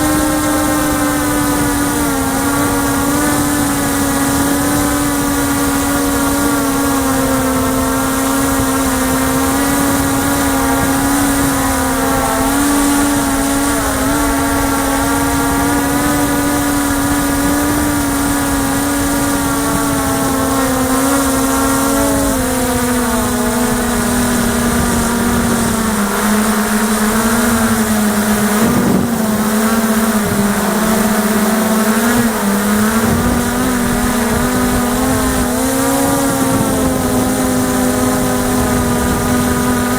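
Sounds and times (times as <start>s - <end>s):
drone motors humming: 0.0s - 39.9s
wind on microphone: 0.0s - 39.9s.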